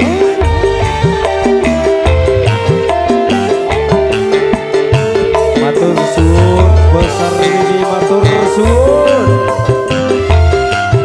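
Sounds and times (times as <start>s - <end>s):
sliding lead melody: 0.0s - 11.0s
steady drum beats: 0.0s - 11.0s.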